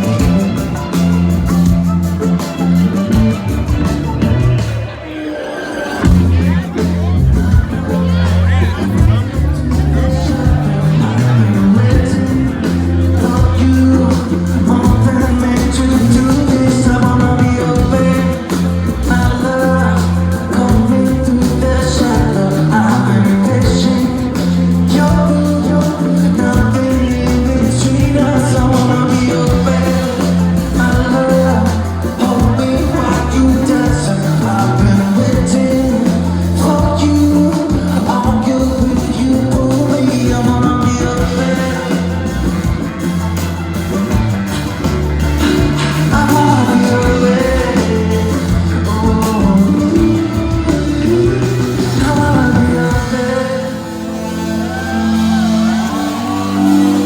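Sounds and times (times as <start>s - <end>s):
live band playing: 0.0s - 57.0s
person singing: 0.0s - 57.0s.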